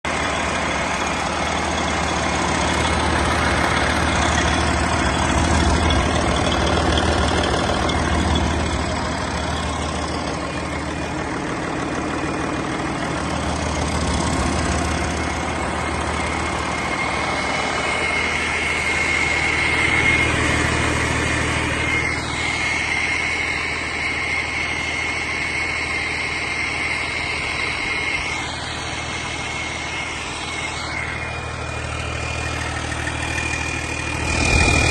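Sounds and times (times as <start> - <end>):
diesel engine running: 0.0 - 34.9
high steady whine: 0.1 - 34.9.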